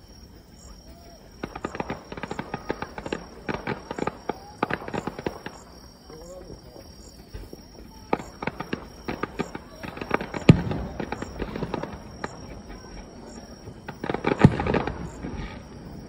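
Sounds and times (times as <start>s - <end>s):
fireworks cracking and popping: 0.0s - 16.0s
fireworks bangs: 0.6s - 16.0s.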